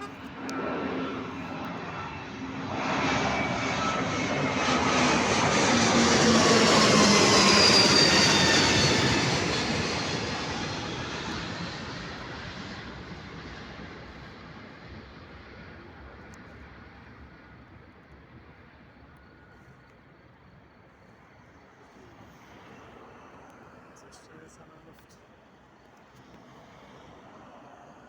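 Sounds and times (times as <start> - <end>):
jet engines roaring at takeoff: 0.0 - 28.0.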